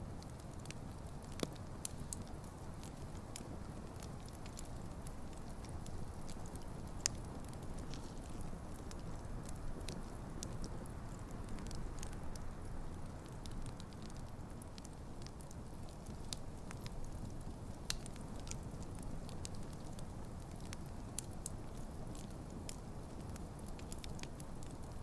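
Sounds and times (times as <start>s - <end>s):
low rush of flames: 0.0s - 25.0s
crackles and pops of logs: 0.1s - 25.0s.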